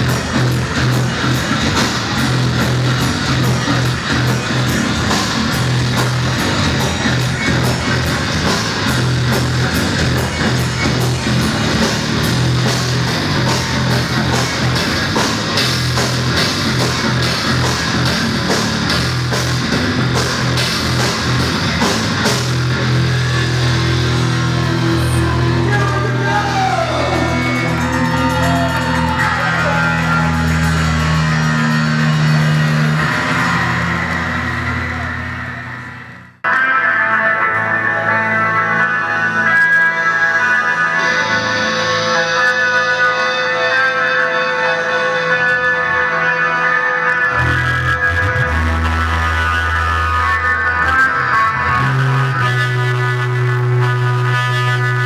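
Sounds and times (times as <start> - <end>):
drums: 0.0 - 55.0
heavy rock band playing: 0.0 - 55.0
sliding guitar notes: 0.0 - 55.0.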